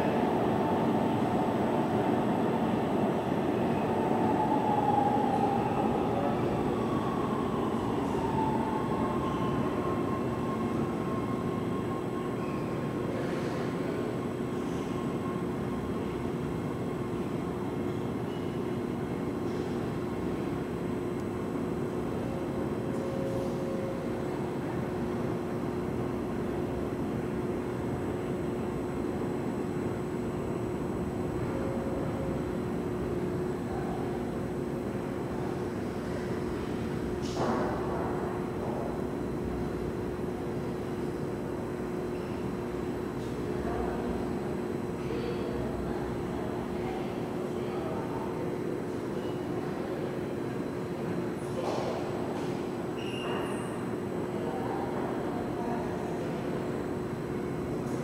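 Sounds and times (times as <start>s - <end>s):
high whine of train: 0.0s - 58.0s
subway train pulling away: 0.0s - 58.0s
underground station hum: 0.0s - 58.0s.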